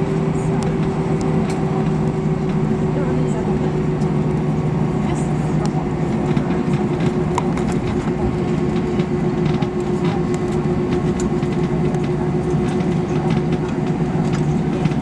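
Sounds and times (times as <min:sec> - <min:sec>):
airliner machinery hum: 0:00.0 - 0:15.0
noisy rush: 0:00.0 - 0:15.0.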